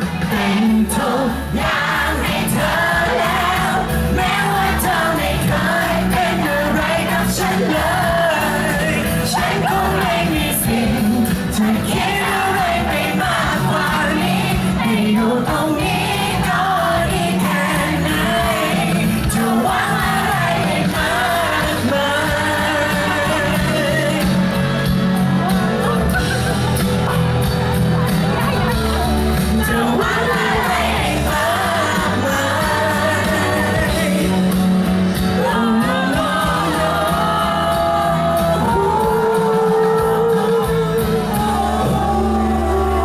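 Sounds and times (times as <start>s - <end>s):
man singing into a microphone: 0.0s - 24.9s, 29.6s - 43.0s
backing track with steady beat: 0.0s - 43.0s.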